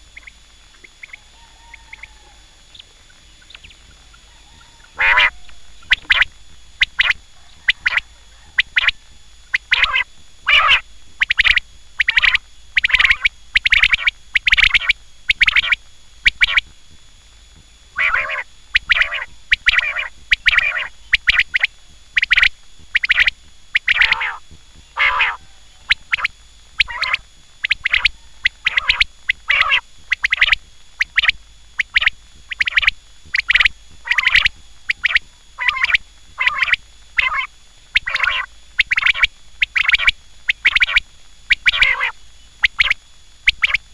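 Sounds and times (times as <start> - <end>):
quail calling: 0.0 - 16.6, 18.0 - 43.9.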